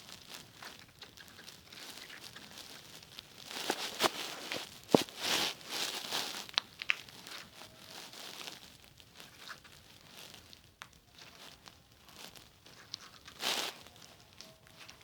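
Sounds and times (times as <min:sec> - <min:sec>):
slime crinkling and rustling: 0:00.0 - 0:15.0.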